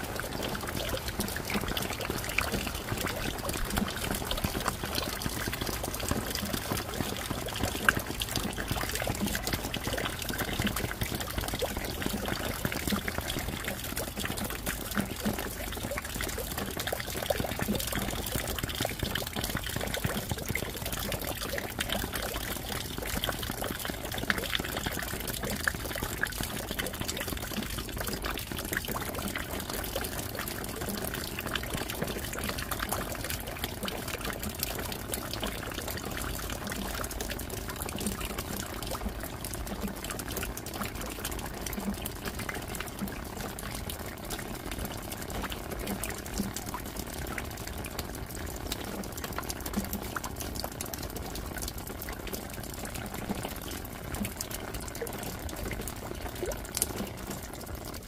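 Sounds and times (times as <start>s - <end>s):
heavy water drip: 0.0s - 58.0s
rain falling: 0.0s - 58.0s.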